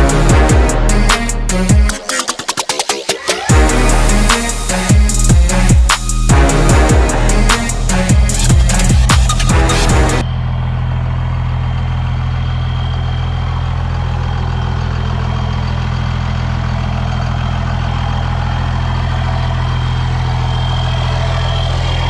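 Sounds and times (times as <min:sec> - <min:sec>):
truck engine running: 0:03.5 - 0:22.0.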